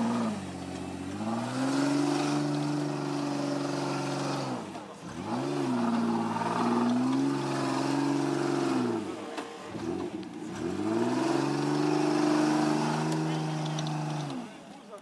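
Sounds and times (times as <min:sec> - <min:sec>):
engine revving: 0:00.0 - 0:14.7.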